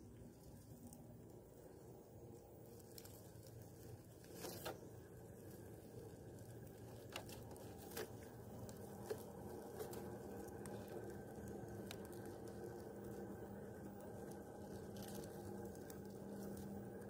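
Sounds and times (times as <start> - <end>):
faint drivetrain hum: 0.0 - 17.0
rustling grass and leaves: 0.0 - 17.0
twigs and dry leaves crackling: 0.0 - 17.0.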